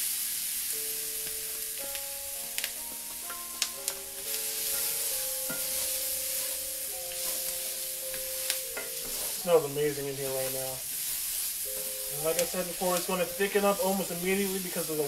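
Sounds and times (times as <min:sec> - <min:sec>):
vegetables sizzling in hot fat: 0:00.0 - 0:15.0.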